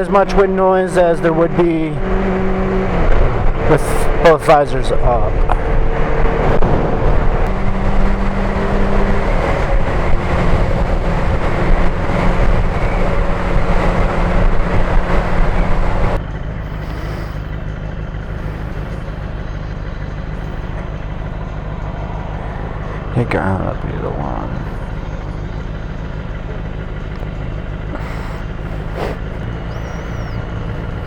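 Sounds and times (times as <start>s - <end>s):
motorcycle engine humming: 0.0s - 31.0s.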